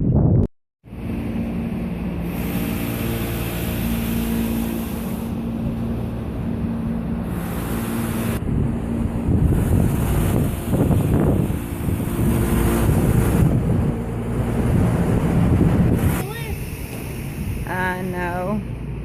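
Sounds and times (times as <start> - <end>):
moving vehicle drone: 0.8 - 19.0.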